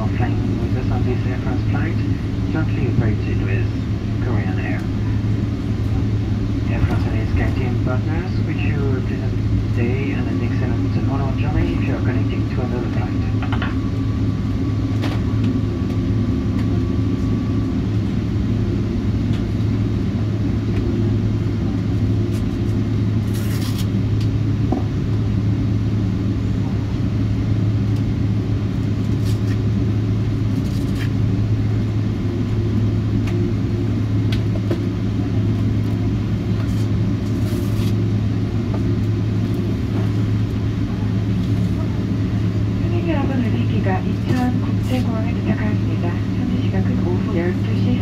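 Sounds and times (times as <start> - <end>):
aircraft engine hum and rumble: 0.0 - 48.0.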